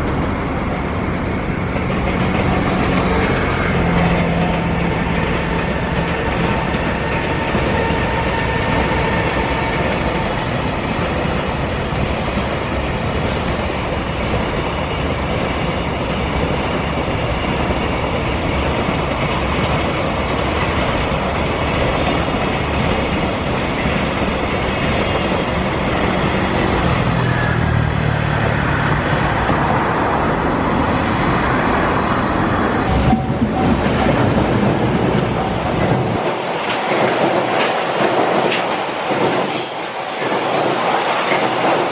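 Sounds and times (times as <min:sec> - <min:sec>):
electric locomotive passing: 0:00.0 - 0:41.9
train wheels running on rails: 0:00.0 - 0:41.9.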